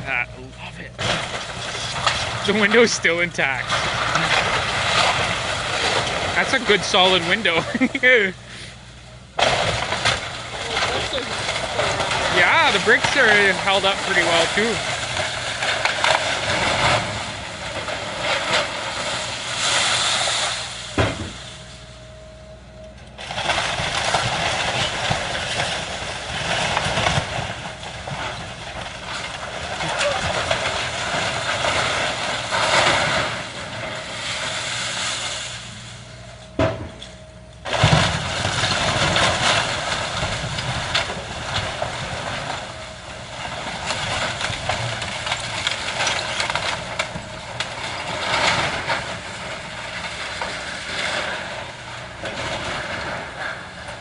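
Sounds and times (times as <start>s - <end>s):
debris crunching and cracking: 0.0s - 54.0s.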